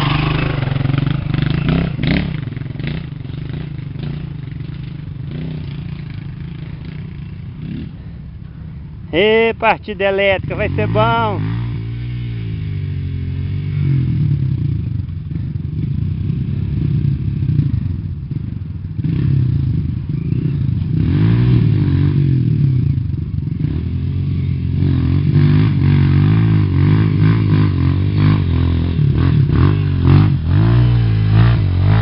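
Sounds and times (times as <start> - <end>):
dirt bike engine revving: 0.0 - 8.3, 9.1 - 32.0.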